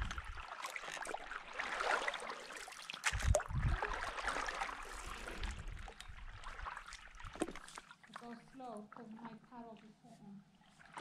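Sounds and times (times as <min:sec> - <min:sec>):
paddle splashing in water: 0:00.0 - 0:09.7, 0:10.6 - 0:11.0
water trickling: 0:00.0 - 0:11.0.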